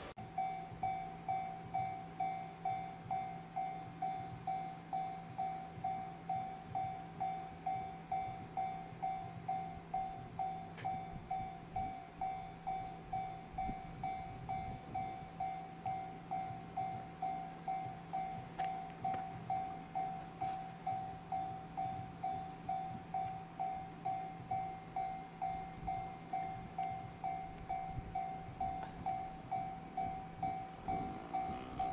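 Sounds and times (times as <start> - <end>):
level crossing warning bell: 0.0 - 31.9.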